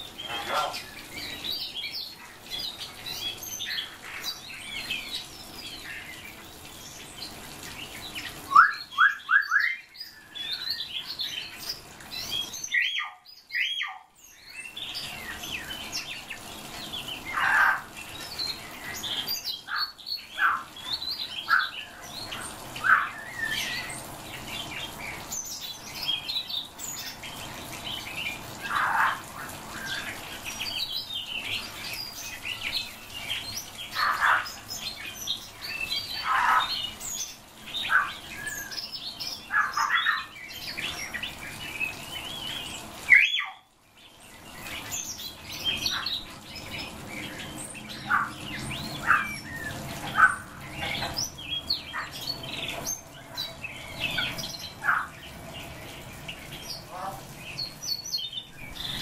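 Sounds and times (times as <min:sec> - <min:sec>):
songbirds chirping and calling: 0:00.0 - 0:59.0.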